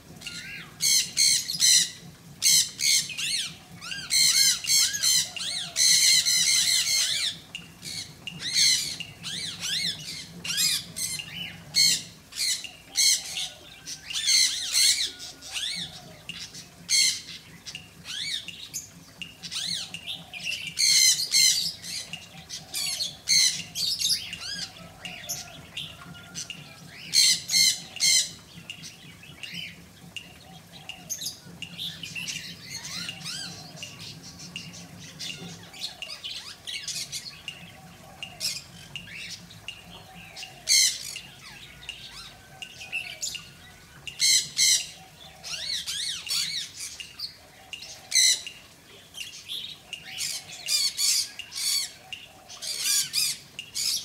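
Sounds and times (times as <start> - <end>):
birds squawking and chirping: 0.0 - 54.0.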